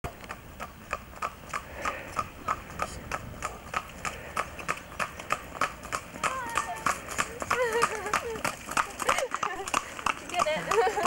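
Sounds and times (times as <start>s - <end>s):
hooves clip-clopping on tarmac: 0.1s - 11.0s.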